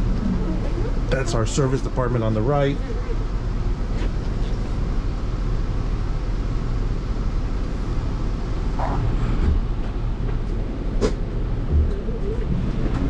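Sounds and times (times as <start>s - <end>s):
motorhome engine running: 0.0s - 13.0s
road noise: 0.0s - 13.0s.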